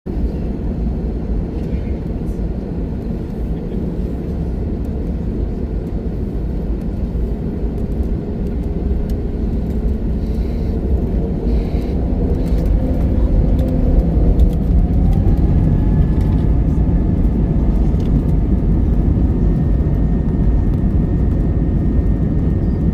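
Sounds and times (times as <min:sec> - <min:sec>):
engine and wheel rumble: 0:00.1 - 0:22.9
jet engine whine rising: 0:00.2 - 0:22.9.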